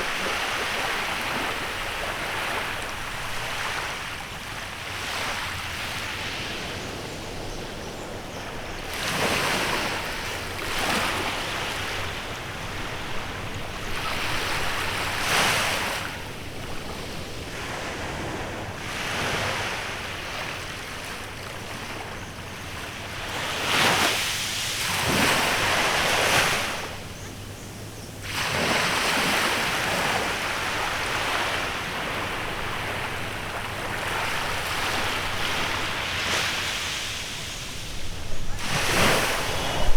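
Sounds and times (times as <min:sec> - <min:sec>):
small waves breaking on beach: 0:00.0 - 0:27.5, 0:28.2 - 0:39.9.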